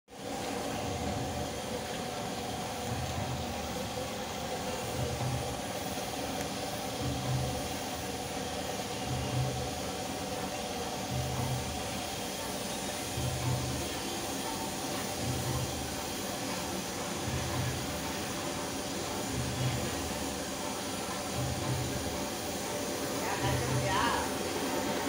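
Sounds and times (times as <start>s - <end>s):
machine hum: 0.1s - 25.0s.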